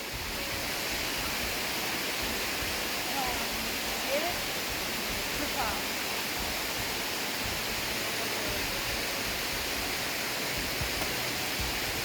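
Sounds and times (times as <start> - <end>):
water pouring over waterfall: 0.0 - 12.0.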